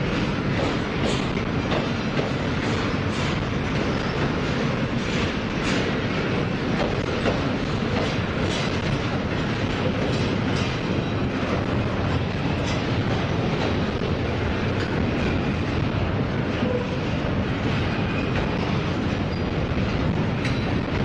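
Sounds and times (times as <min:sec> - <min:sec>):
steel wheels rumbling on rail: 0:00.0 - 0:21.0.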